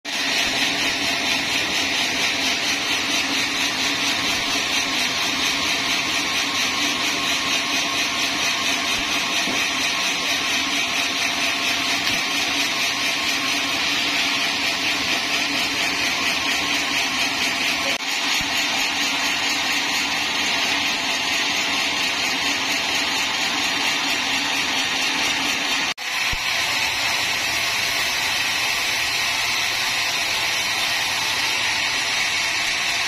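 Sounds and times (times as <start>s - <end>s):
band saw whining: 0.1s - 33.0s.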